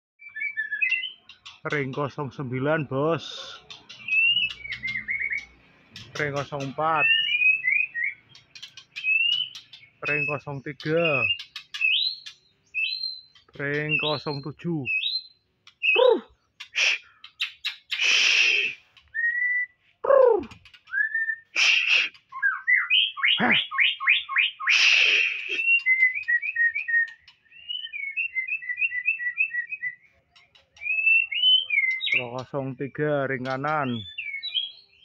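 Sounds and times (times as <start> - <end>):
bird singing whistled slurs: 0.2 - 1.7, 3.2 - 35.0
harsh chattering bird calls: 0.2 - 35.0
quick repeated short bird notes: 0.3 - 19.4, 20.0 - 35.0.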